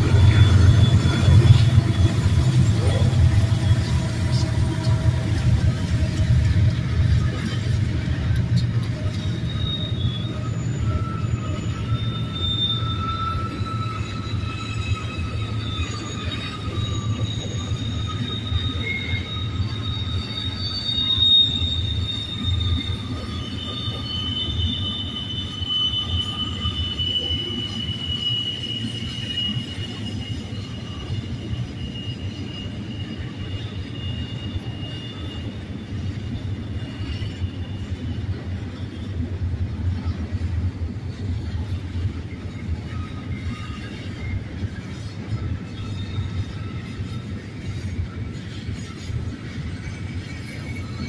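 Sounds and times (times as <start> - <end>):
freight train wheels rumbling on rail: 0.0 - 51.0
high wheel squeal: 0.0 - 51.0.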